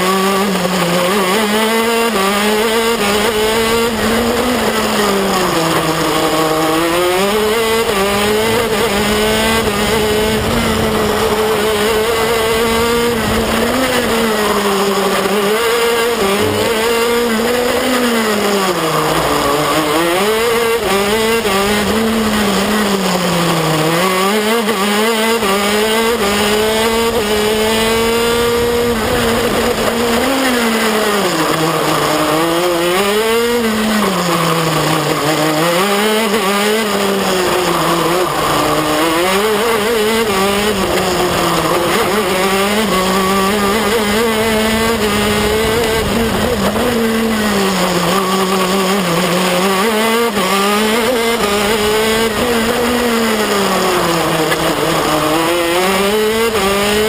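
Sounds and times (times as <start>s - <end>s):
kart engine at racing speed: 0.0s - 57.0s.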